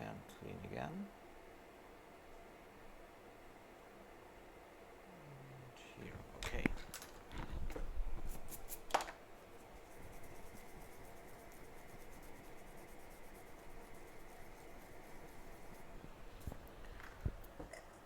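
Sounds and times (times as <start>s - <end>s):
faint hiss: 0.0s - 18.0s.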